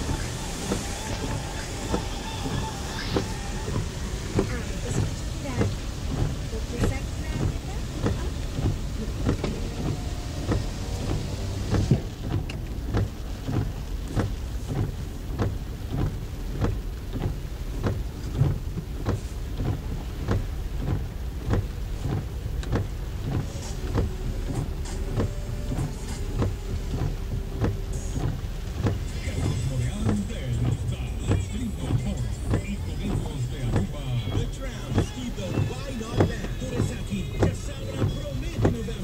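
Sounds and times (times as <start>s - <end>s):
engine and road rumble: 0.0s - 39.0s
rain hissing: 0.0s - 39.0s
windshield wipers beating: 0.0s - 39.0s.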